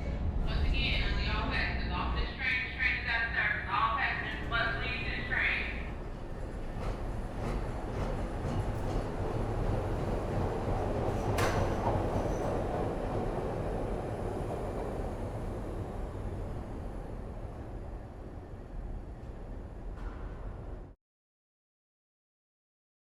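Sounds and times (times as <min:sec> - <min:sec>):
train rumbling and rattling: 0:00.0 - 0:21.0.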